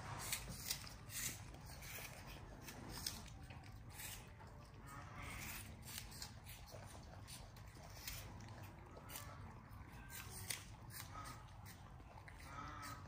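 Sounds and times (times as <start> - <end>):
monkey crunching apple: 0.0 - 13.0.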